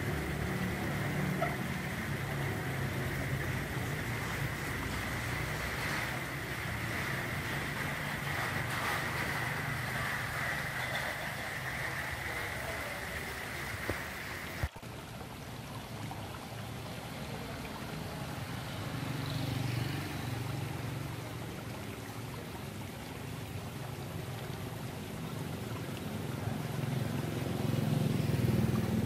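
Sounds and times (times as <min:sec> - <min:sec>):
water trickling in a pond: 0:00.0 - 0:29.0.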